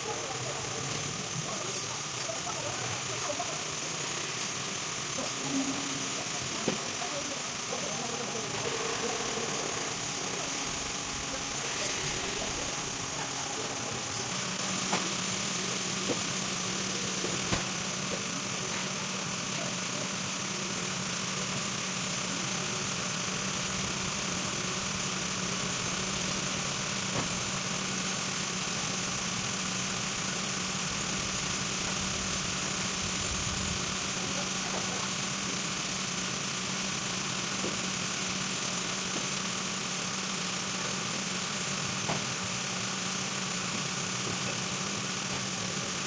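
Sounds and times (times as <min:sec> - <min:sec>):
machine humming and hissing: 0:00.0 - 0:46.0.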